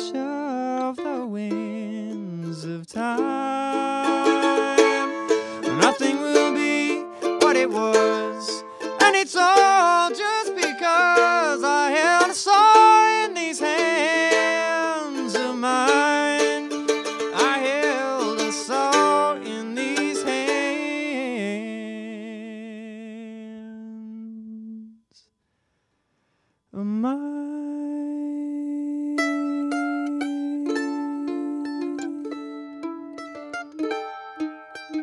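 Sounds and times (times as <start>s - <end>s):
acoustic mandolin playing: 0.0s - 22.2s, 28.9s - 35.0s.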